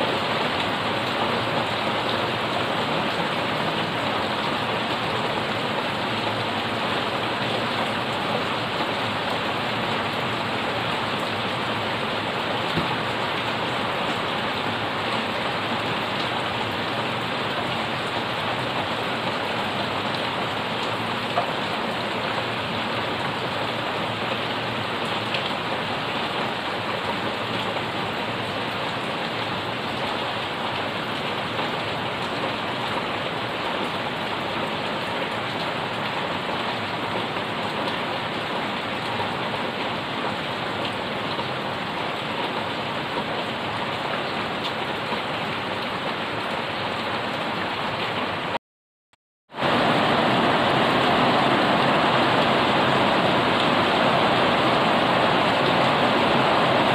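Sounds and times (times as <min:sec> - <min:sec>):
heavy rain on leaves: 0:00.0 - 0:48.6, 0:49.5 - 0:56.9.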